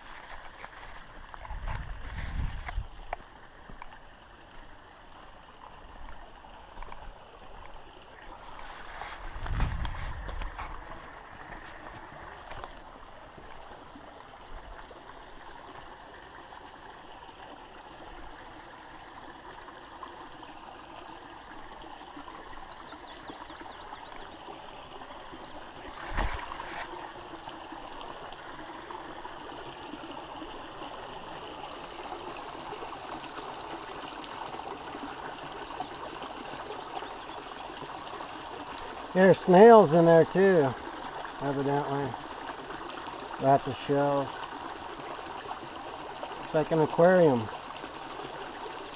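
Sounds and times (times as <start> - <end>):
water trickling over rocks: 0.0 - 48.9.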